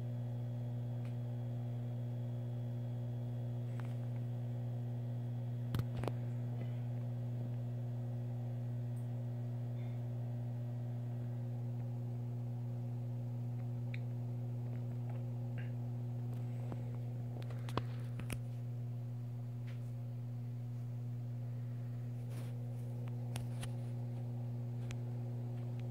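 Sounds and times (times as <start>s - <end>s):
low hum: 0.1s - 25.9s.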